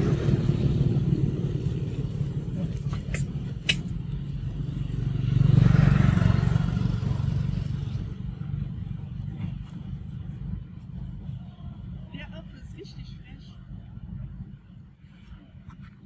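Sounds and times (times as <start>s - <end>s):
vehicle engine rumble passing: 0.0s - 15.6s.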